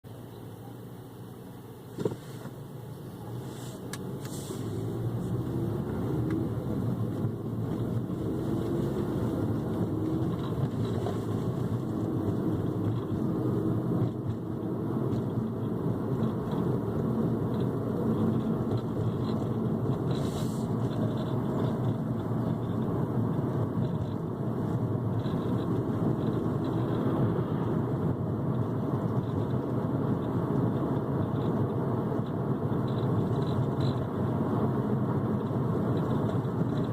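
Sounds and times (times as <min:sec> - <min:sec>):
car cabin road noise: 0:00.0 - 0:36.9
rattle inside car: 0:01.7 - 0:36.9.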